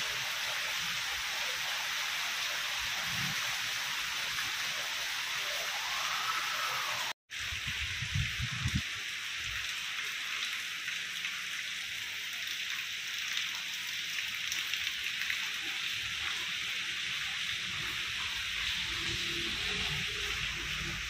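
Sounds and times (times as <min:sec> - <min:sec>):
heavy rain on paving and leaves: 0:00.0 - 0:21.0.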